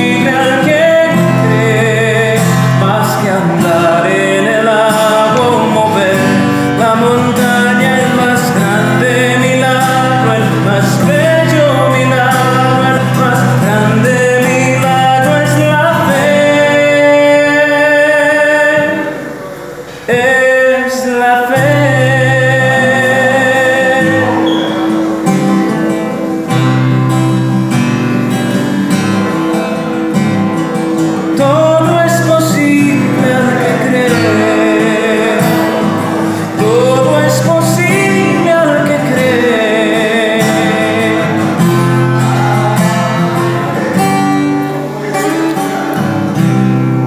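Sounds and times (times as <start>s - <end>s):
man singing: 0.0s - 27.1s, 30.9s - 47.0s
acoustic guitar: 0.0s - 47.0s.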